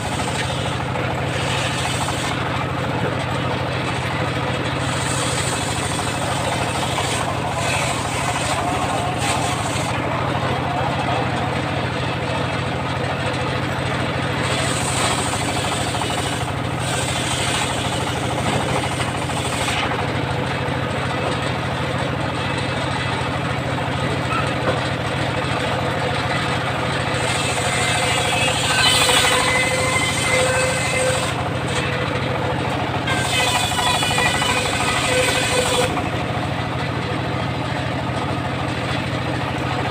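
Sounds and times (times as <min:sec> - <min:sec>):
saw blade cutting timber: 0:00.0 - 0:21.5, 0:22.4 - 0:37.1
sawmill engine running: 0:00.0 - 0:39.9.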